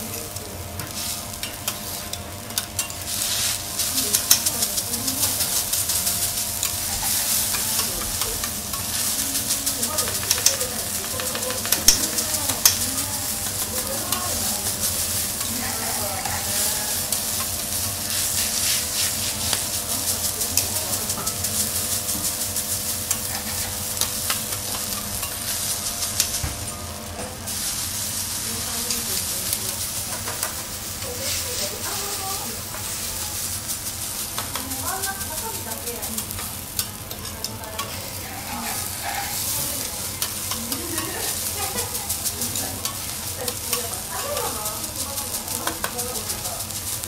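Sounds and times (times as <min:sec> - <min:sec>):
rice sizzling on a griddle: 0:00.0 - 0:47.0
metal spatula scraping griddle: 0:00.9 - 0:20.3, 0:23.0 - 0:26.4, 0:28.8 - 0:46.5.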